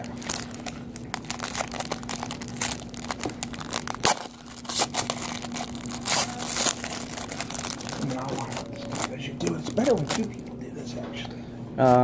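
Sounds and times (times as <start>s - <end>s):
plastic wrapper tearing and crinkling: 0.0s - 10.4s.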